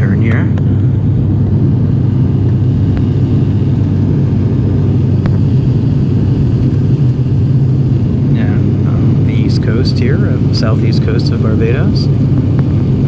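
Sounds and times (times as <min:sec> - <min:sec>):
propeller engines droning in cabin: 0:00.0 - 0:13.0.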